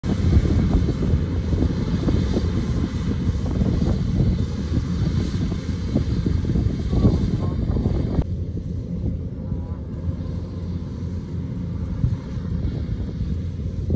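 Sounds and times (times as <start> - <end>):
diesel engine drone: 0.0 - 13.9.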